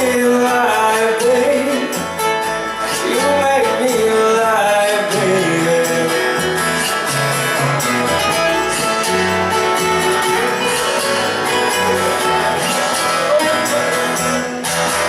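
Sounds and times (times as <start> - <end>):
electric guitar lead: 0.0 - 15.0
bass line: 2.4 - 15.0.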